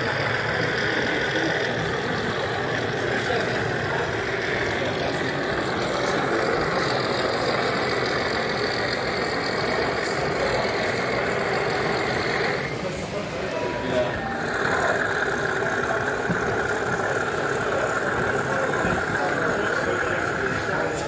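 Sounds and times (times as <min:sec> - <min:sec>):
model diesel engine running: 0:00.0 - 0:21.0.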